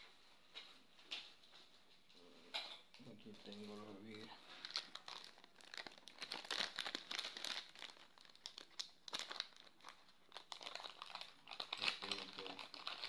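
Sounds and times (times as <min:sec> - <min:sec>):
crinkly rustling and clicking: 0:00.5 - 0:13.0.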